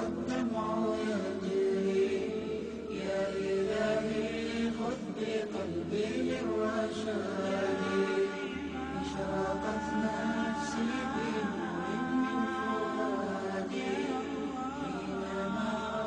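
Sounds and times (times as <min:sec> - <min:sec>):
voices chanting long held notes: 0:00.0 - 0:16.0.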